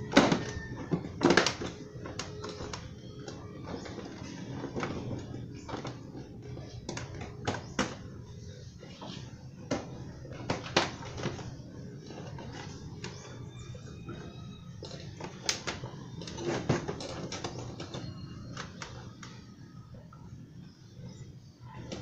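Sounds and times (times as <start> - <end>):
plastic panels clicking and knocking: 0.0 - 8.3, 8.9 - 19.5.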